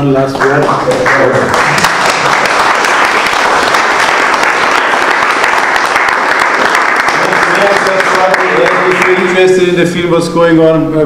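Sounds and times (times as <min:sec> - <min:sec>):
audience applauding: 0:00.3 - 0:09.7.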